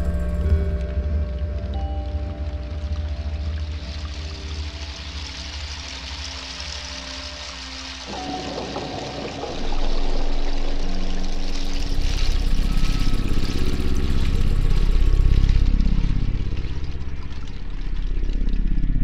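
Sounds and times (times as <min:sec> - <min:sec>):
deep throbbing drone: 0:00.0 - 0:07.1, 0:08.0 - 0:19.0
hiss-like drone texture: 0:00.0 - 0:19.0.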